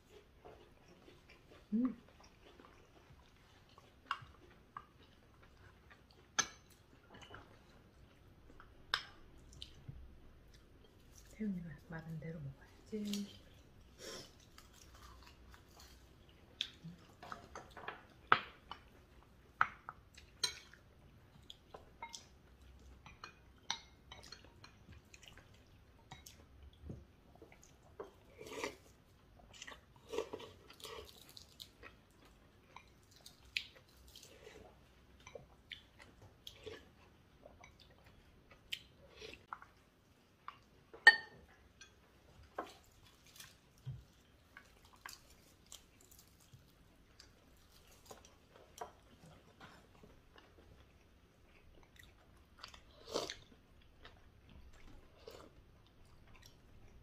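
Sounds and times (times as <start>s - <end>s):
chewing food: 0.0s - 11.9s, 12.6s - 57.0s.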